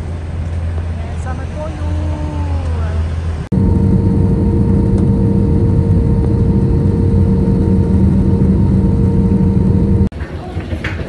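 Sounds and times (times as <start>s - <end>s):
jet engines drone in cabin: 0.0s - 10.1s.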